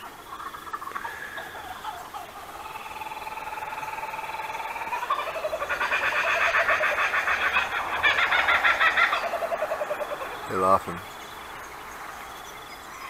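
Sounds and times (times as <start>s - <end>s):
kookaburras laughing: 0.0s - 10.9s.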